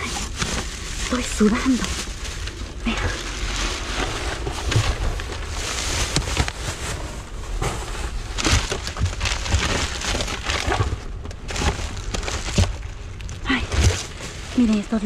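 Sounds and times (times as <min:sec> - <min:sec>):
trash bags and cardboard rustling: 0:00.0 - 0:15.0.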